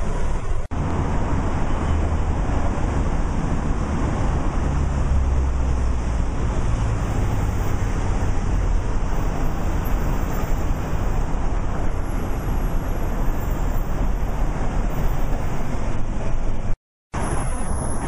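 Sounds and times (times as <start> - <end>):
roadside traffic noise: 0.0 - 18.0
wind rumble on microphone: 0.0 - 18.0.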